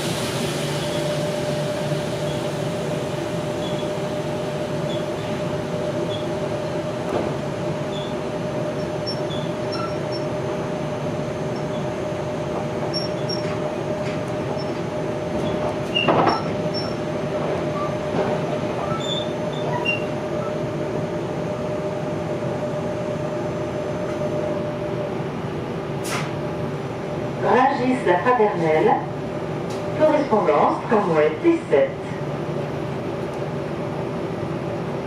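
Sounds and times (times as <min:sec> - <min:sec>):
train rolling rumble: 0:00.0 - 0:35.0.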